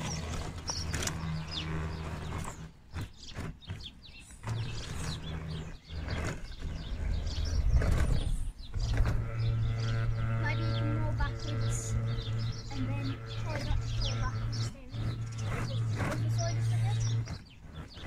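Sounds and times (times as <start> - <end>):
dirt crunching under tyres: 0.0 - 18.0
toy motor whirring: 0.0 - 18.0.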